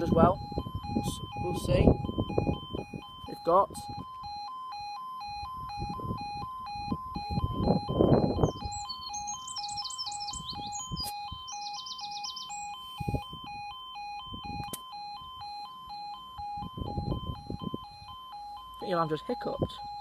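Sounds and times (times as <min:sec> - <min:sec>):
level crossing alarm: 0:00.0 - 0:20.0.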